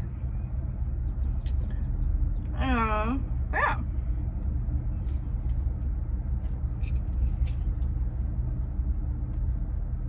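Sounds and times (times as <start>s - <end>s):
faint hum: 0.0s - 10.0s
steady low rumble: 0.0s - 10.0s.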